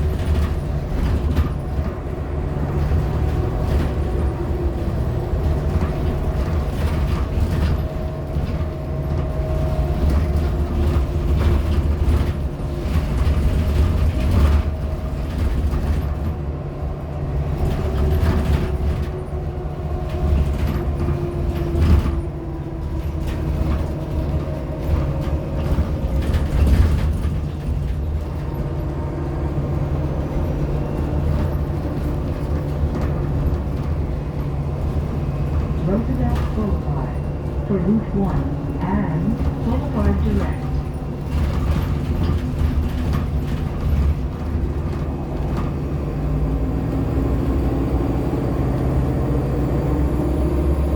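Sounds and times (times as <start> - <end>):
body rattles and clicks: 0.0 - 48.2
bus drivetrain hum: 0.0 - 50.9.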